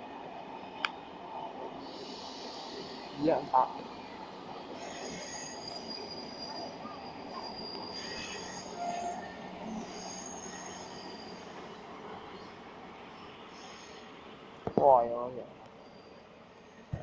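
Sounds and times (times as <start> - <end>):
train wheels squealing on rails: 0.5 - 17.0.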